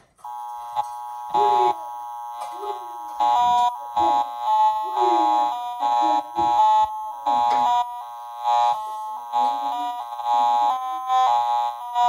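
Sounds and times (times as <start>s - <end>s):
toy keyboard buzzy chords: 0.2s - 12.0s.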